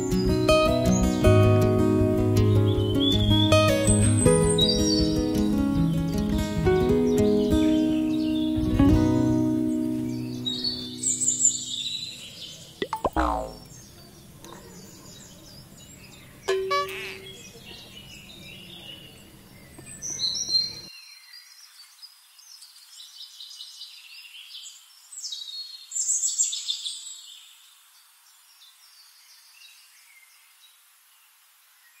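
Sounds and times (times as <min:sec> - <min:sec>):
birds chirping and trilling: 0:00.0 - 0:01.4, 0:02.5 - 0:27.2.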